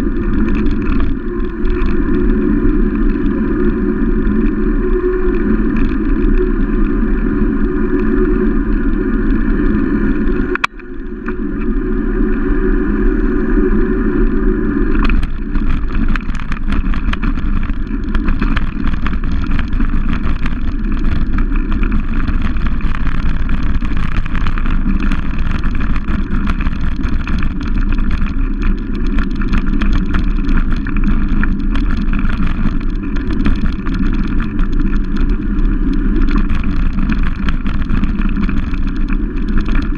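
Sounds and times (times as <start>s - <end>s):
crackling and rattling: 0.0s - 11.8s, 14.8s - 39.9s
motorcycle engine running: 0.0s - 39.9s
wind on microphone: 0.0s - 39.9s.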